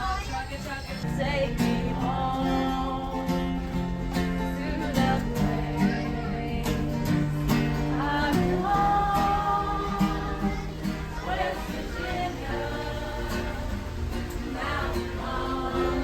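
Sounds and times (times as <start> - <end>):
country music with acoustic guitar: 0.0 - 16.0.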